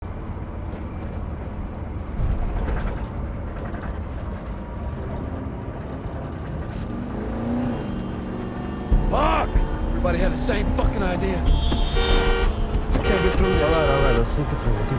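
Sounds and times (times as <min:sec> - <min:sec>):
vehicle engine and road rumble: 0:00.0 - 0:14.9.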